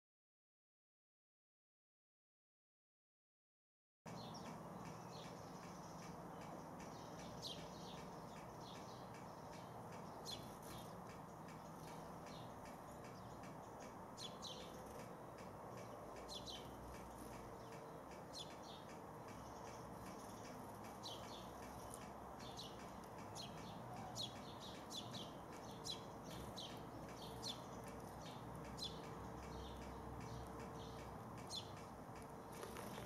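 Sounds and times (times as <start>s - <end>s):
sparrows chirping: 4.1s - 33.0s.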